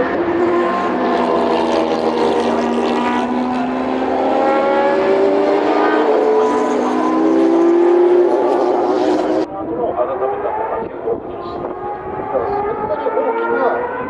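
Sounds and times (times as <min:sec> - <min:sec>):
race engine revving high: 0:00.0 - 0:14.0.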